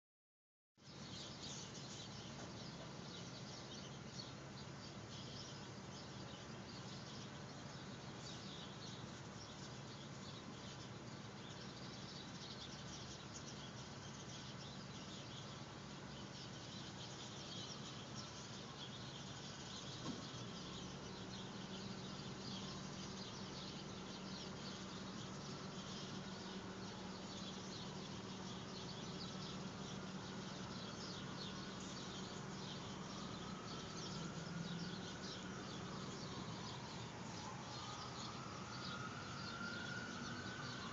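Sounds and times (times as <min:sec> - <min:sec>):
small birds chirping: 0:00.8 - 0:40.9.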